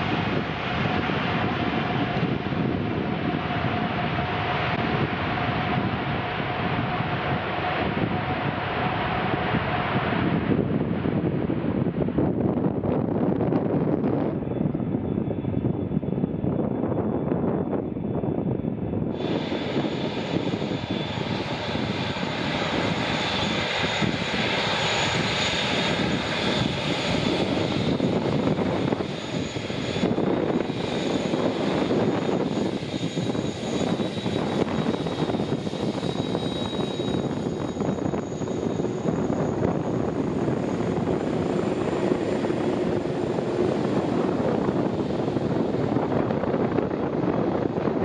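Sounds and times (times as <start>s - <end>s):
jet engines rushing with whine: 0.0s - 48.0s.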